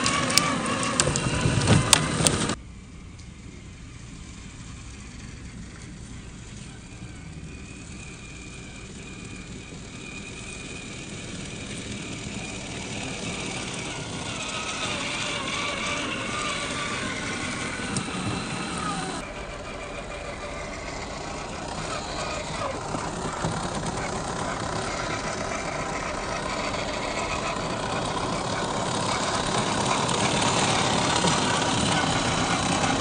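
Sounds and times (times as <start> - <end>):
electric motor whining: 0.0 - 2.6, 3.2 - 33.0.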